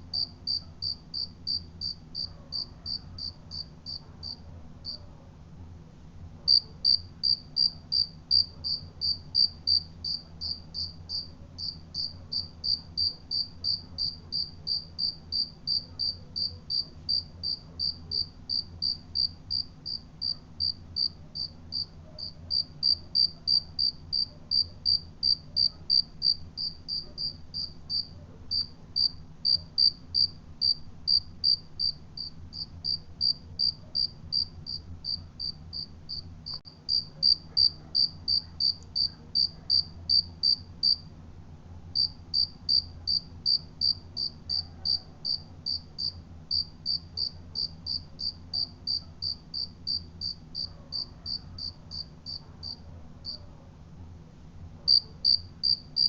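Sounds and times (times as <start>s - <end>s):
faint low hum: 0.0s - 56.0s
cricket chirping: 0.1s - 5.0s, 6.5s - 41.0s, 42.0s - 53.4s, 54.9s - 56.0s.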